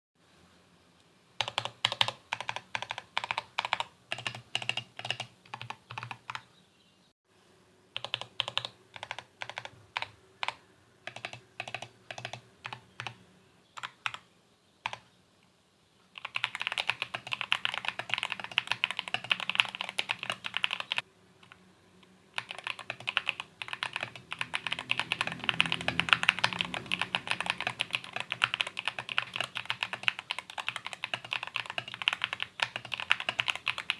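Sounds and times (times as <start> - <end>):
mechanical keyboard typing: 1.4 - 6.4, 8.0 - 13.2, 13.8 - 14.2, 14.8 - 15.0, 16.2 - 21.6, 22.4 - 33.9.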